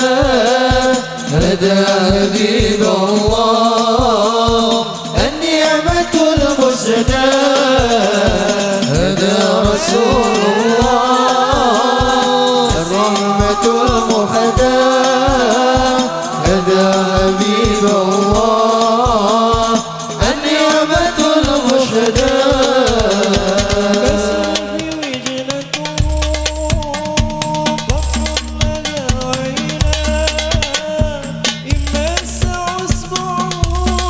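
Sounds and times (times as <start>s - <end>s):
frame drums beating: 0.0s - 34.0s
men singing into microphones: 0.0s - 34.0s.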